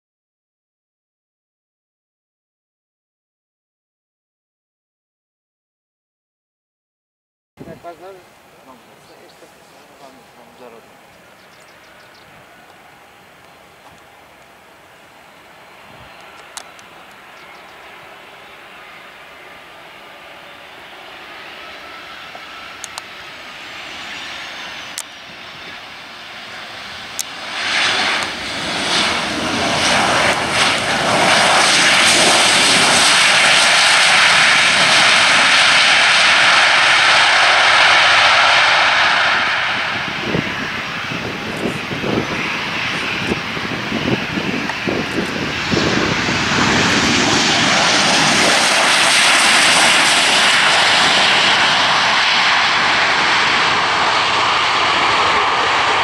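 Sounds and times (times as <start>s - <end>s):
jet engines roaring: 7.6s - 56.0s.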